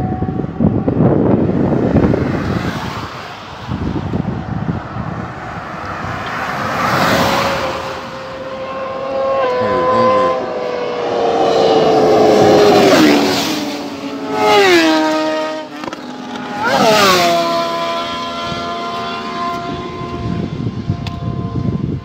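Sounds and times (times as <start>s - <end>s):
motorcycle passing: 0.0s - 22.0s
vehicles speeding past: 0.0s - 22.0s.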